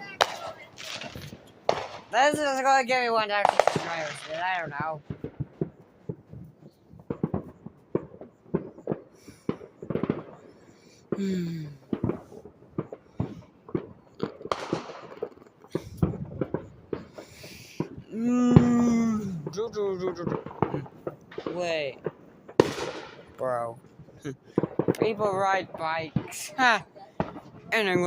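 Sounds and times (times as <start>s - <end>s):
fireworks popping and crackling: 0.0s - 28.0s.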